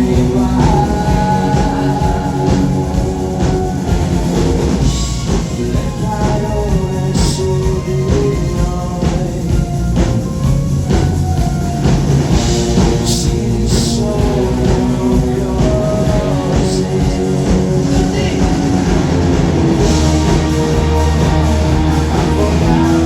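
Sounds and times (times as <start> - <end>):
voices singing along: 0.0 - 10.0, 12.3 - 23.0
live rock band playing: 0.0 - 23.0.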